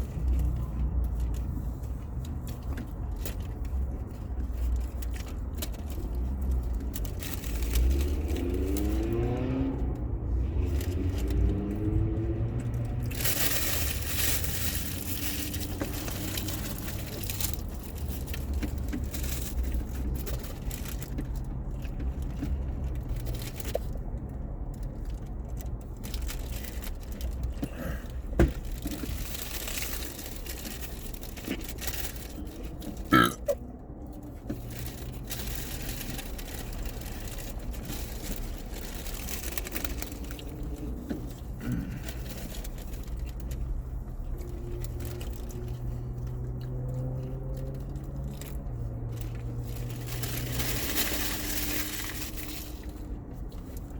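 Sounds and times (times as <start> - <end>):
wrappers crinkling: 0.0 - 24.0, 24.8 - 53.9.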